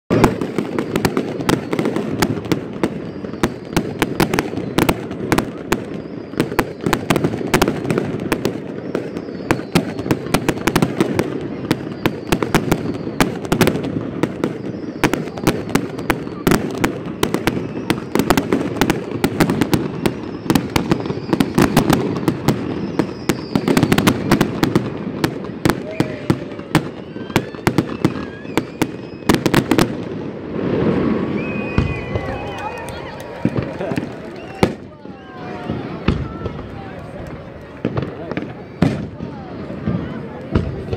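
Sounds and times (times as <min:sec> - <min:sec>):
fireworks bangs and crackles: 0:00.1 - 0:40.9.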